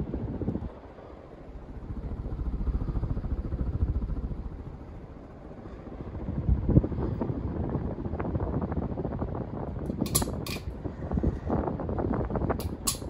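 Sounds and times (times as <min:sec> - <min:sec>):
ceiling fan air rumble: 0:00.0 - 0:13.0.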